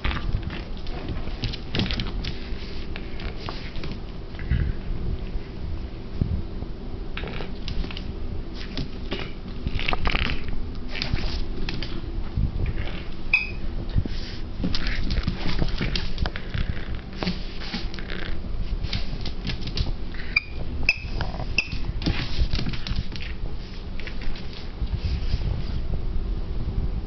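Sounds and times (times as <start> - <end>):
puppy scuffling with toy: 0.0 - 5.6, 7.4 - 26.0.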